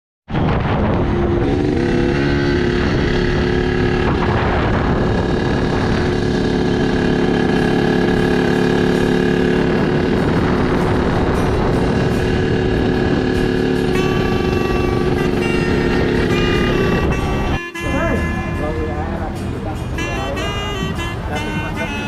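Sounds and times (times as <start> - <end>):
engine running: 0.3 - 22.0.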